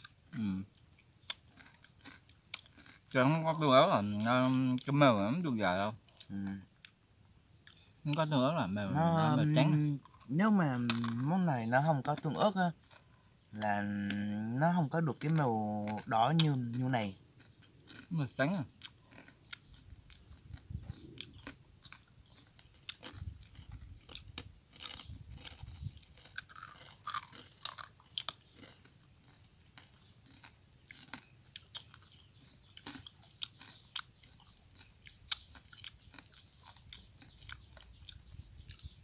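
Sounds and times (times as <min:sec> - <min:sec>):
crunchy food being chewed: 0:00.0 - 0:07.0, 0:07.6 - 0:08.3, 0:08.9 - 0:39.0
steady high-pitched hiss: 0:00.0 - 0:39.0.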